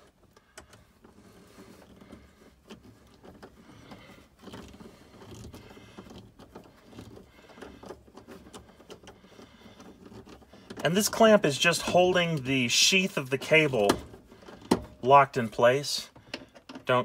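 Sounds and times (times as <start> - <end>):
hand rustling among cables: 0.0 - 17.0.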